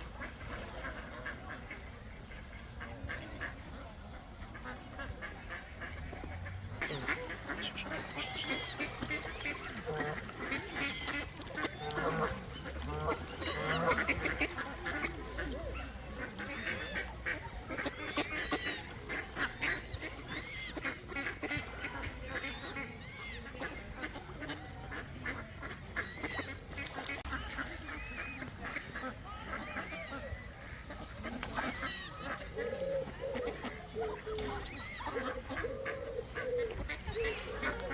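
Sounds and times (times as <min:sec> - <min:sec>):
ducks quacking: 0:00.0 - 0:37.9.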